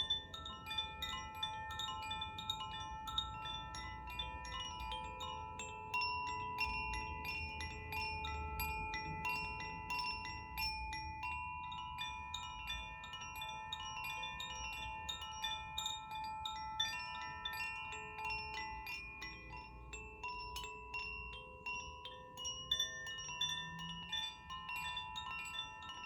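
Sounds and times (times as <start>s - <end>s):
wind chimes tinkling: 0.0s - 26.0s.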